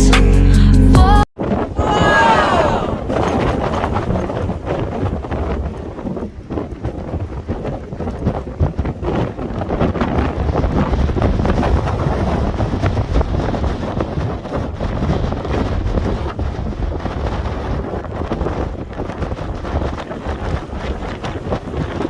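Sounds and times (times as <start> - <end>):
strong wind buffeting microphone: 1.4 - 22.0.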